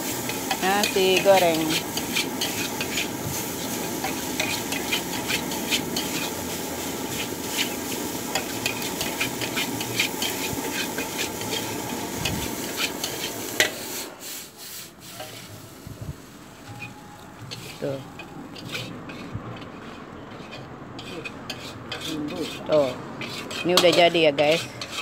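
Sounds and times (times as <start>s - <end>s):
metal spatula scraping wok: 0.0s - 25.0s.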